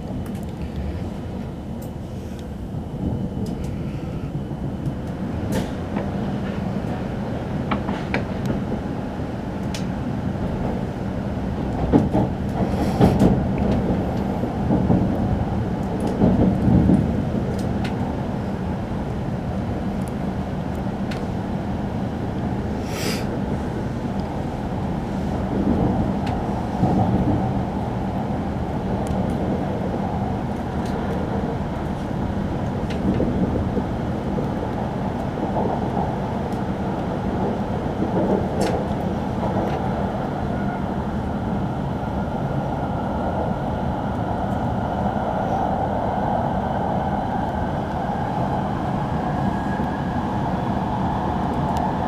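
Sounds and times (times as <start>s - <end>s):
train rumble: 0.0s - 52.0s.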